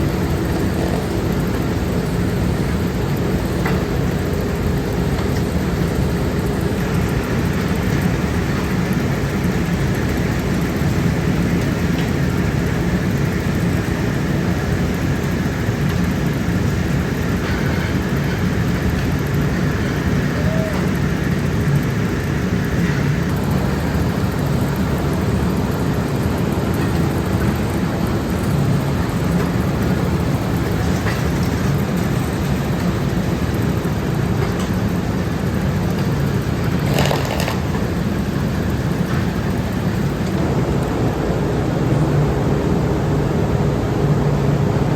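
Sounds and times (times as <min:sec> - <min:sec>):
factory machinery running: 0:00.0 - 0:44.9.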